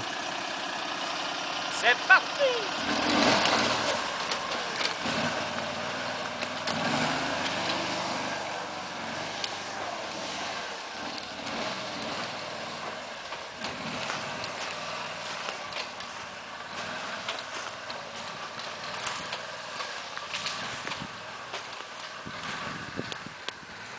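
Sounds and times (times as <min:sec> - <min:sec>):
atv engine running: 0:00.0 - 0:23.9
driving over dry leaves: 0:00.0 - 0:23.9.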